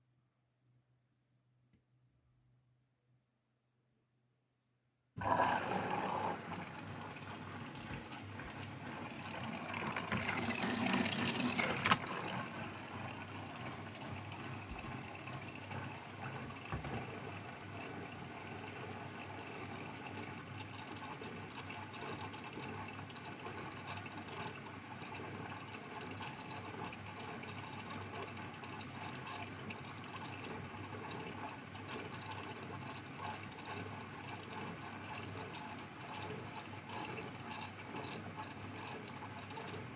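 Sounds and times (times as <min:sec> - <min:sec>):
water rushing into washing machine: 0:05.2 - 0:39.9.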